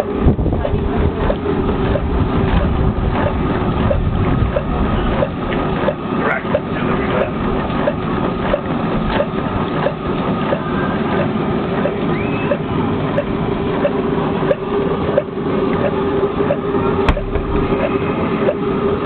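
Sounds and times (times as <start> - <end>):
engine low rumble: 0.0 - 19.0
hot air engine ticking: 0.0 - 19.0.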